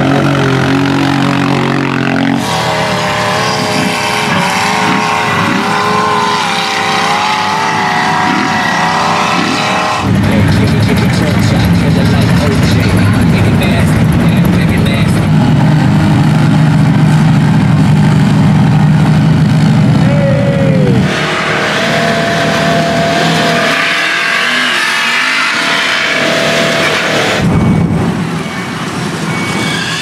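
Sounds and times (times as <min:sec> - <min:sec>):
atv engine drone in mud: 0:00.0 - 0:30.0
rushing engine and tyre noise: 0:00.0 - 0:30.0
steady whine: 0:00.0 - 0:30.0.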